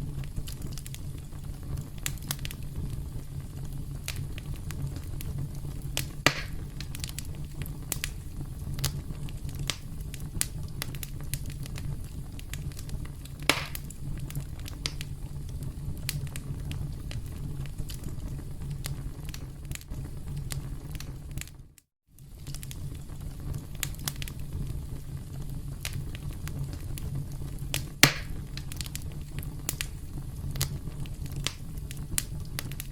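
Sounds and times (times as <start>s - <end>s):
campfire crackling: 0.0s - 21.6s, 22.2s - 32.9s.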